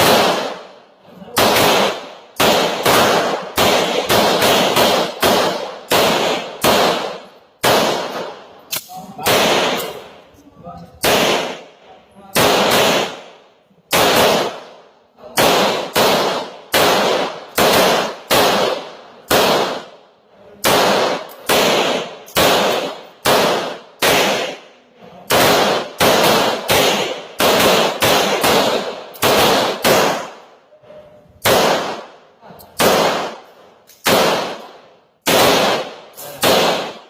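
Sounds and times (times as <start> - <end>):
rapid pistol fire with echo: 0.0 - 10.2, 11.0 - 30.6, 31.4 - 37.0.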